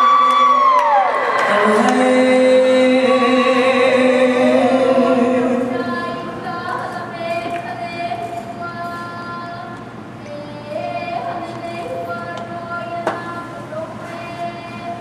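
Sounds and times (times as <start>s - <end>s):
girl chanting with vibrato: 0.0s - 15.0s.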